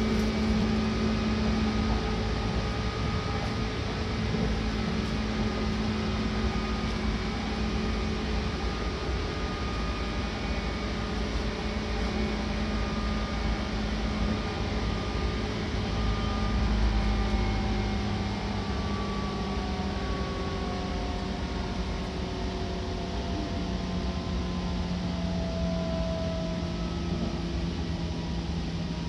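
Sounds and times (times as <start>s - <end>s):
train wheels rumbling on track: 0.0s - 27.8s.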